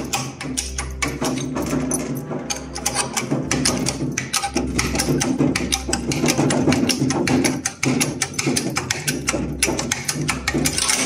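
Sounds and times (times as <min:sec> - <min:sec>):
ticking beat with low chords: 0:00.0 - 0:11.0.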